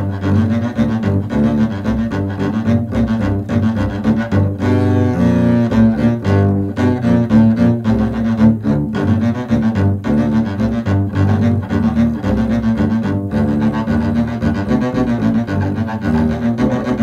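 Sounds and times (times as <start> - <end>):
double bass duet: 0.0 - 17.0.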